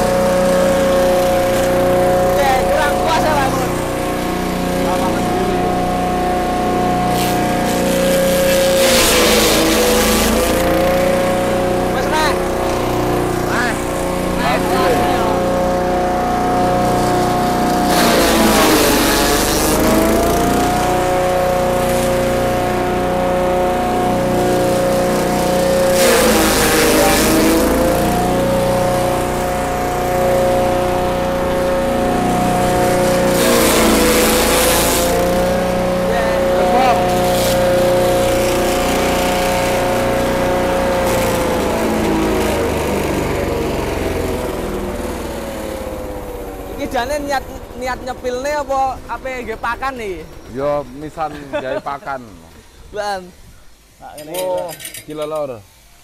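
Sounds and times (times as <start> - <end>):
forage chopper engine running: 0.0 - 55.5
grass shredding: 0.0 - 55.6.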